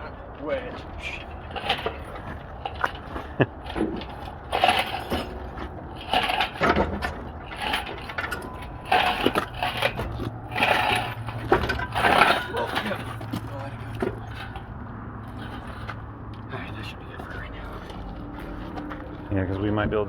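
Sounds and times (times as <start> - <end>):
metal tools clinking and clanking: 0.0 - 19.4.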